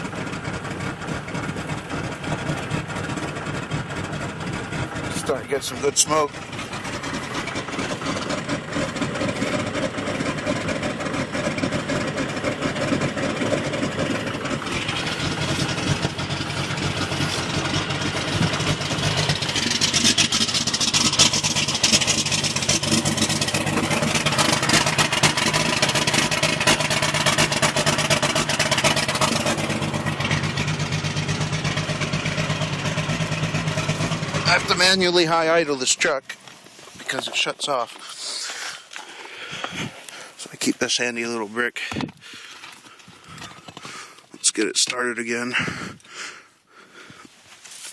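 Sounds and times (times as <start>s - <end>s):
diesel engine running rough: 0.0s - 41.6s.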